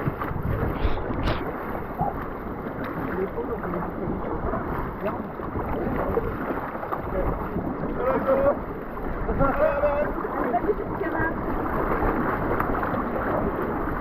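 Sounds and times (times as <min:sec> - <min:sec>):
water splashes: 0:00.0 - 0:14.0.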